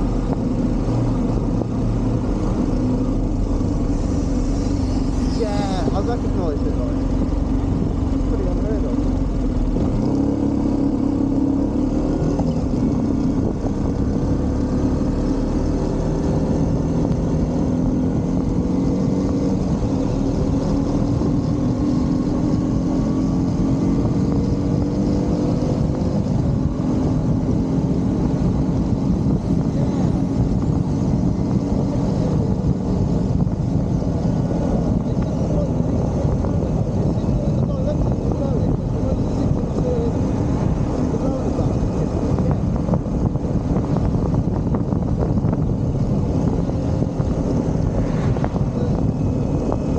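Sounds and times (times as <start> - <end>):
motorcycle engine: 0.0 - 49.9
wind rumble on microphone: 0.0 - 49.9.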